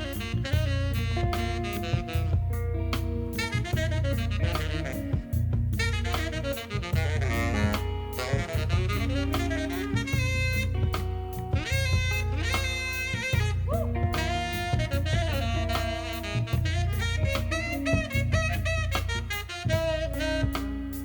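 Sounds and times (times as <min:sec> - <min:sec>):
bass line: 0:00.0 - 0:21.0
drum kit: 0:00.0 - 0:21.0
saxophone melody: 0:00.0 - 0:21.0.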